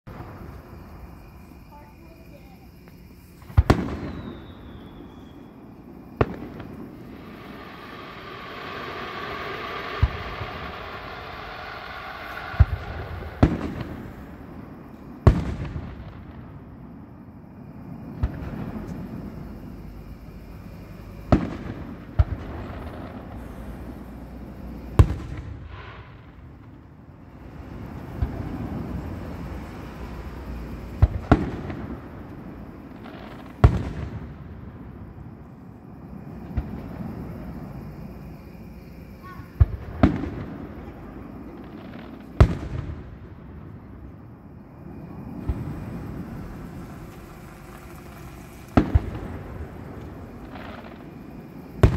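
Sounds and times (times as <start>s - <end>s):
fireworks banging: 0.1s - 17.0s, 20.5s - 35.2s, 36.0s - 44.1s, 44.8s - 51.9s.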